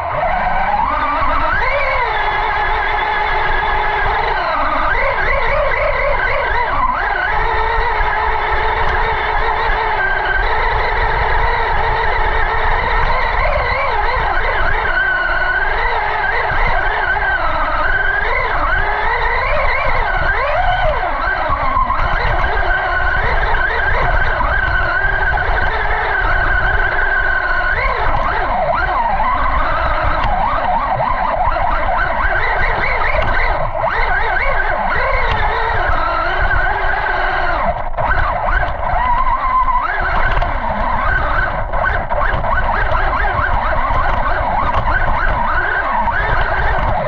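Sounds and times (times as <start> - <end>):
electric motor whining: 0.0 - 47.0.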